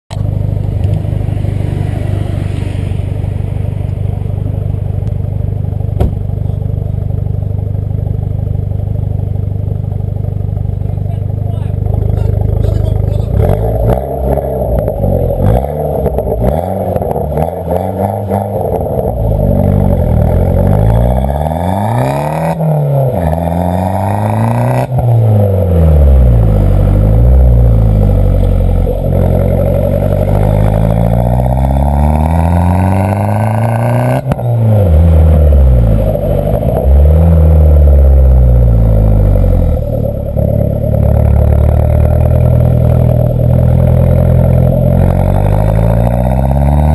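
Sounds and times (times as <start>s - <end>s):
car engine revving: 0.1s - 46.9s.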